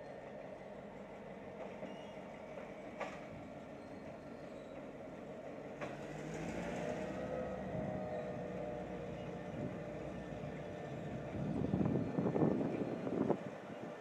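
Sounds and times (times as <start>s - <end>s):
diesel locomotive engine: 0.0s - 14.0s
train cars rumbling over bridge: 0.0s - 14.0s.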